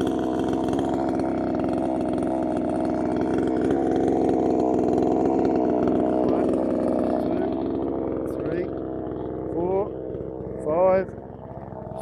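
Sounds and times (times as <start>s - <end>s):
chainsaw engine idling: 0.0s - 12.0s.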